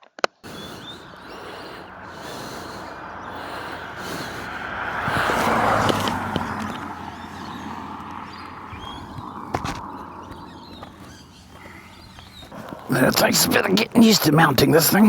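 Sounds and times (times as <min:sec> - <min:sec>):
road vehicle passing: 0:00.4 - 0:15.0.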